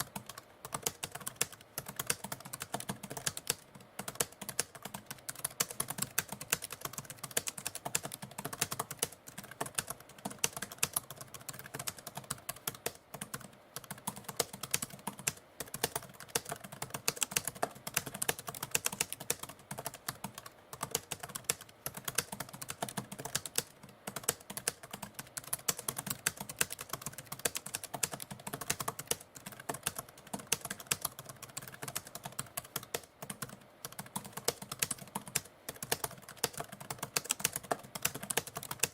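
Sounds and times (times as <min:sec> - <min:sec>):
typewriter keys clacking: 0:00.0 - 0:38.9.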